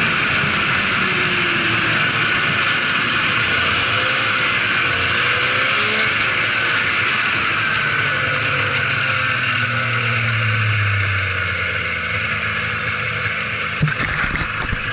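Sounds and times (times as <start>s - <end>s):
snowmobile engine running: 0.0s - 14.9s.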